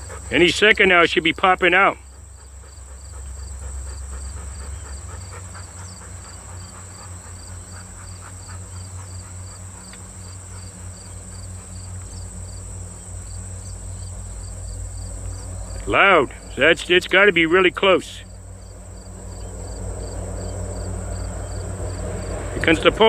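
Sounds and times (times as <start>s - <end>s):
high insect drone: 0.0s - 23.0s
insect chirping: 0.0s - 23.0s
train rumble: 0.0s - 23.0s.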